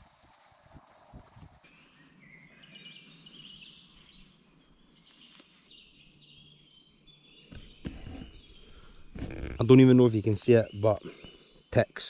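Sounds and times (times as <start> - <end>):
songbirds chirping and warbling: 0.0 - 12.0.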